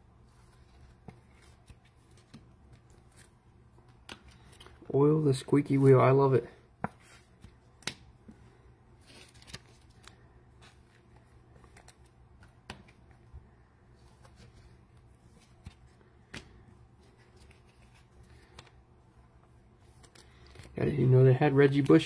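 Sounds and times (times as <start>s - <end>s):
cards rustling: 0.2s - 22.0s.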